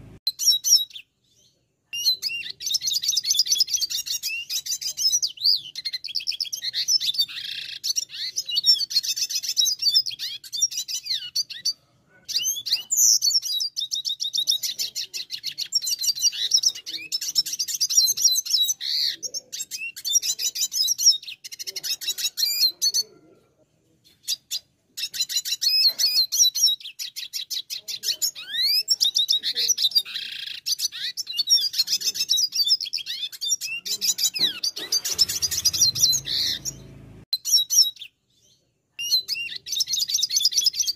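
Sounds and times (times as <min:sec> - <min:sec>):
bird twittering song: 0:00.0 - 0:23.2, 0:24.0 - 0:40.9.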